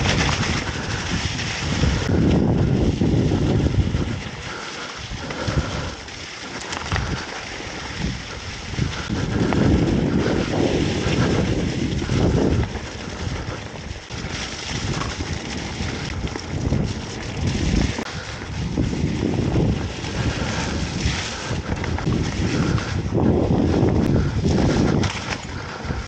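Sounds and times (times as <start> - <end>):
bike tyre rumble: 0.0 - 26.0
wind buffeting microphone: 0.0 - 26.0.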